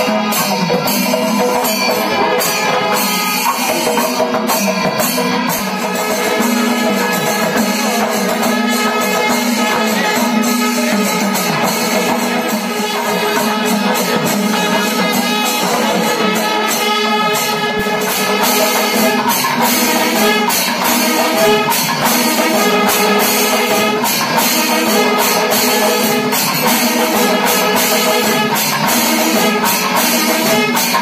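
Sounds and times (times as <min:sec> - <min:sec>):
jingling cymbals: 0:00.0 - 0:31.0
percussion beat: 0:00.0 - 0:31.0.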